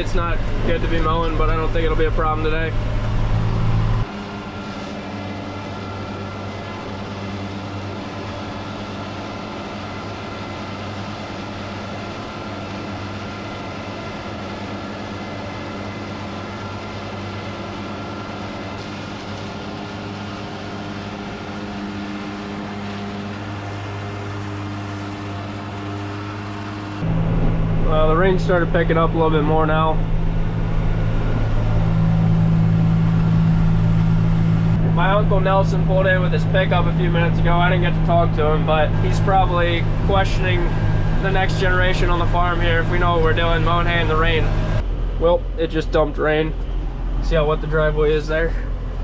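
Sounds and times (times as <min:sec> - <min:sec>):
tractor engine under load: 0:00.0 - 0:49.0.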